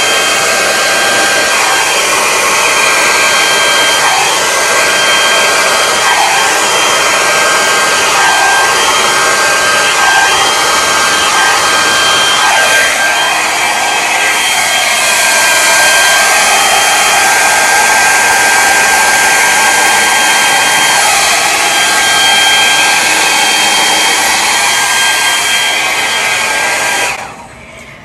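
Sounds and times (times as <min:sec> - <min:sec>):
hair dryer running: 0:00.0 - 0:27.6.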